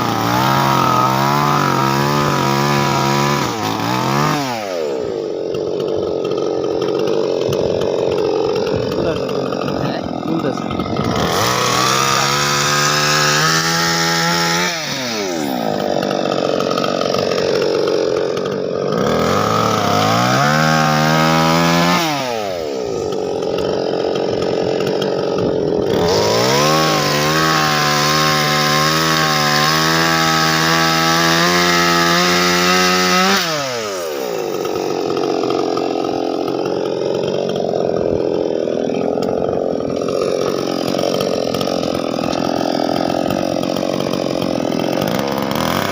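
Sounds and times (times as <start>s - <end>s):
small engine revving: 0.0s - 45.9s.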